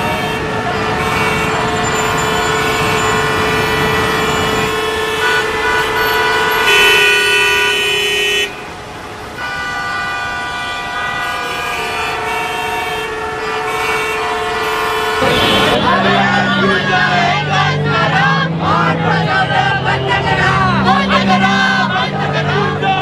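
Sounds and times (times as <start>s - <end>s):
vehicle horns honking: 0.0s - 18.6s.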